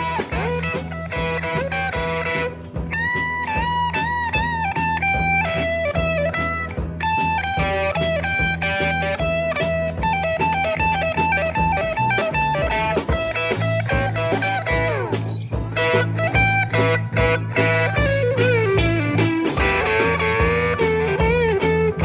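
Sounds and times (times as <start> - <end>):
blues rock band playing: 0.0 - 22.0
lead guitar bending notes: 0.0 - 22.0.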